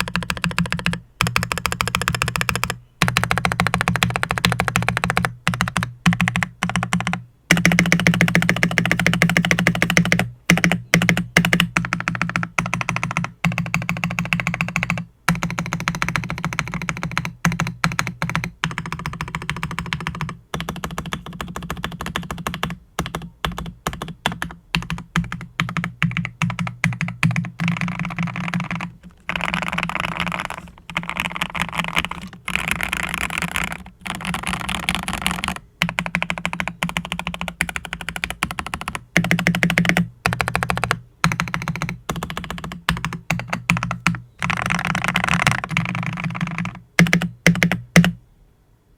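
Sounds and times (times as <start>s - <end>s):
mechanical keyboard typing: 0.0s - 48.2s.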